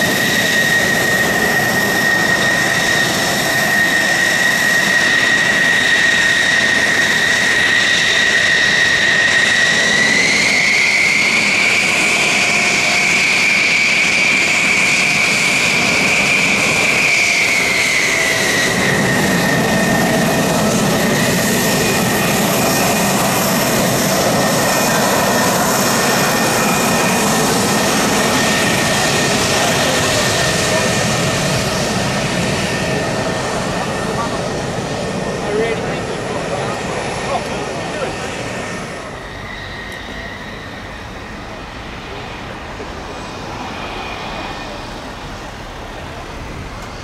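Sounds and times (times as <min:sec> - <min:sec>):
jet engine high whine: 0:00.0 - 0:47.0.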